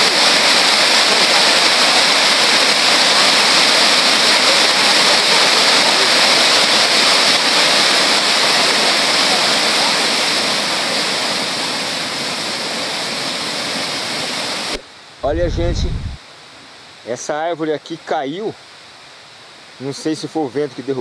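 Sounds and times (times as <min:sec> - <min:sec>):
waterfall pouring over rocks: 0:00.0 - 0:21.0.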